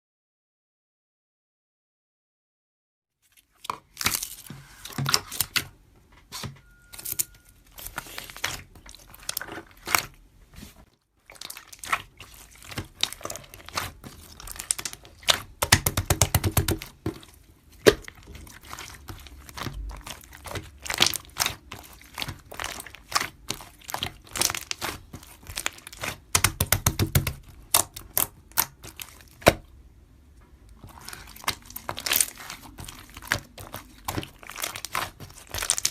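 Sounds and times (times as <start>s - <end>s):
material crinkling and crackling: 3.2s - 29.7s, 30.4s - 35.9s.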